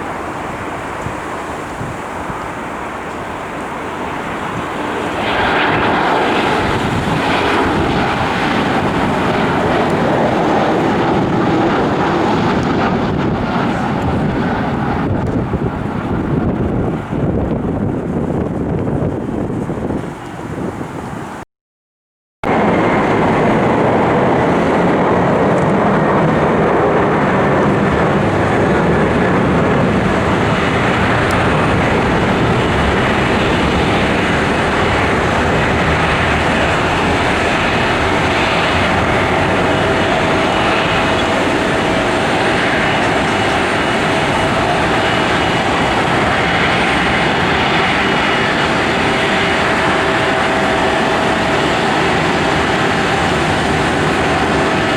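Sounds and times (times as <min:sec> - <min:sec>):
jet engines running: 0:00.0 - 0:21.4, 0:22.4 - 0:54.9.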